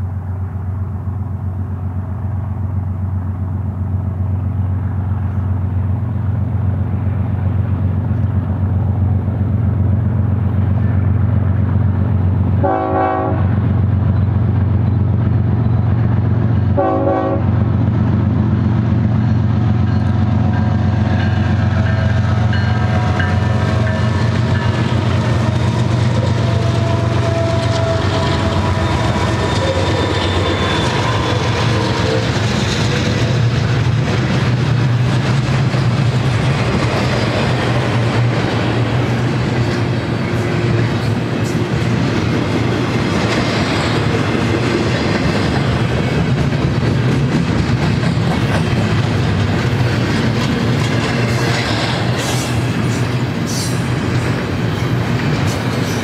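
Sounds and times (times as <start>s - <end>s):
diesel locomotives passing: 0.0s - 56.0s
train wheels rumbling on rail: 0.0s - 56.0s.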